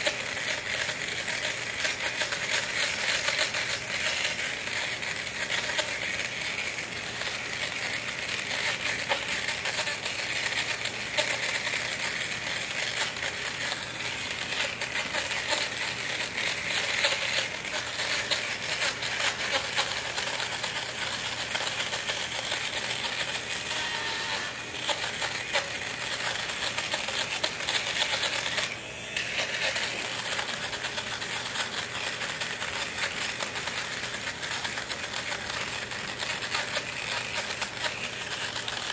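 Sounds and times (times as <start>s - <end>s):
fabric shaver motor whirring: 0.0s - 38.9s.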